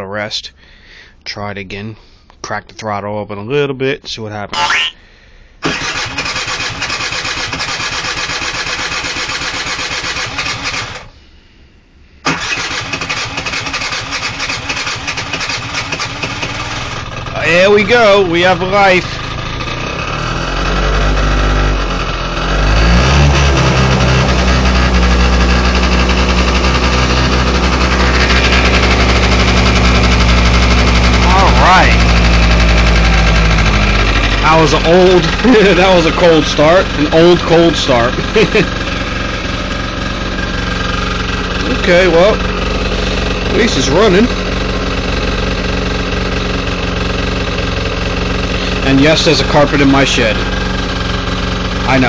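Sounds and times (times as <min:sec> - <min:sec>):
scooter engine cranking: 0:05.6 - 0:11.1, 0:12.3 - 0:52.0.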